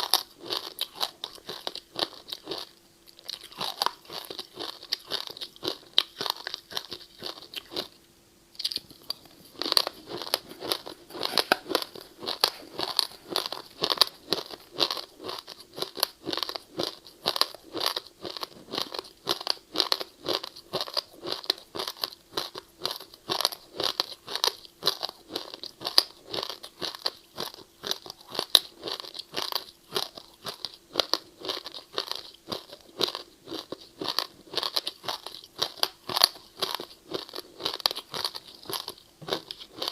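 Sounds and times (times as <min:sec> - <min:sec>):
ice being chewed: 0:00.0 - 0:08.0, 0:08.6 - 0:39.9.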